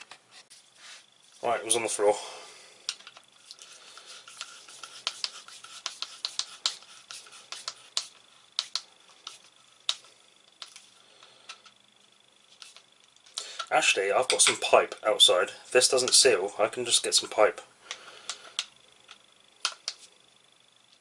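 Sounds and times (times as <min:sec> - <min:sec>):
faint steady high whine: 0:00.0 - 0:21.0.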